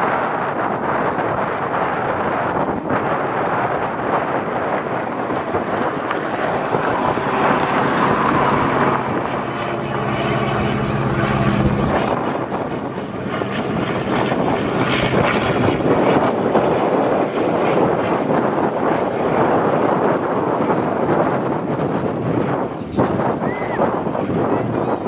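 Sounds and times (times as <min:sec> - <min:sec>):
model plane engine droning: 0:00.0 - 0:25.0
wind buffeting microphone: 0:00.0 - 0:25.0.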